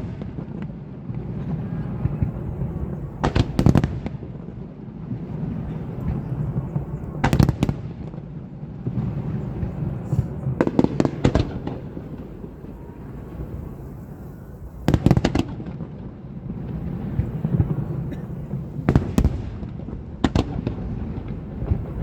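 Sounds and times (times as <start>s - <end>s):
fireworks crackling bangs: 0.0s - 22.0s.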